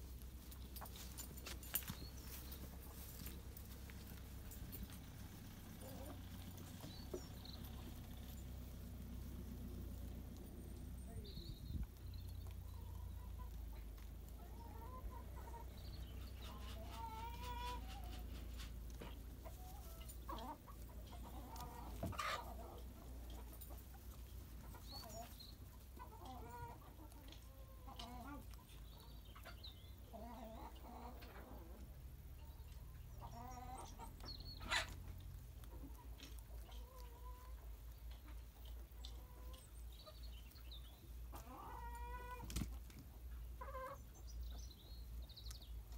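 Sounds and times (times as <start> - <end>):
hens clucking: 0.0 - 45.9.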